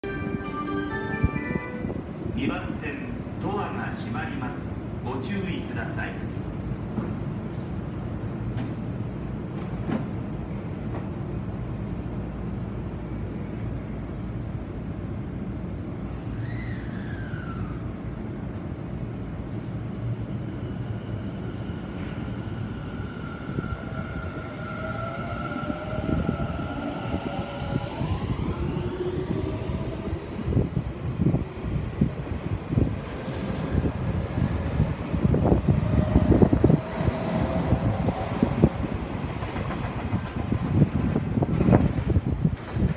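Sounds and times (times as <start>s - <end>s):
electric train rumbling: 0.0s - 42.9s.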